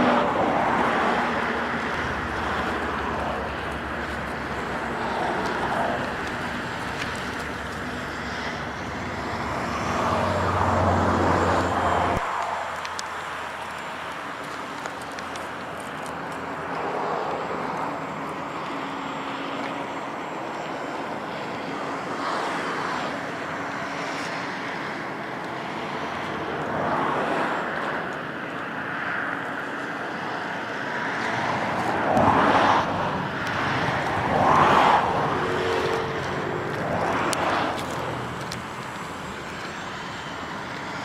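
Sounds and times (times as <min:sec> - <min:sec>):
model airplane motor and propeller: 0:00.0 - 0:41.0.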